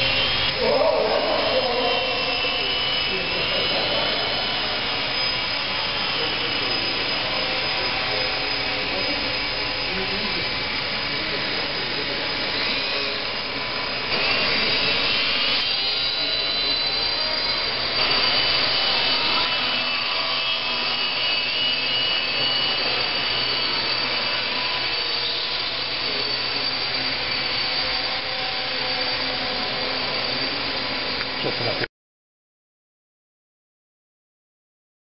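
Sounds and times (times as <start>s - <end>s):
model airplane motor whining: 0.0s - 31.9s.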